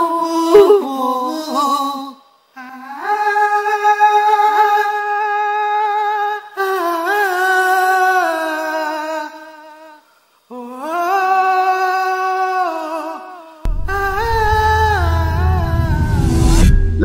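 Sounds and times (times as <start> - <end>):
person humming a melody: 0.0 - 16.2.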